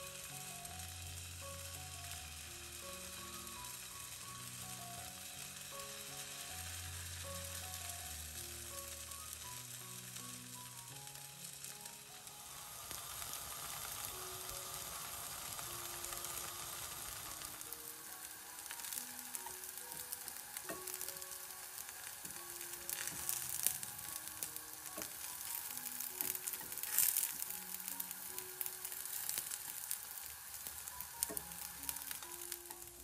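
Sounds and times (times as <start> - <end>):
batter sizzling in oil: 0.0 - 33.0.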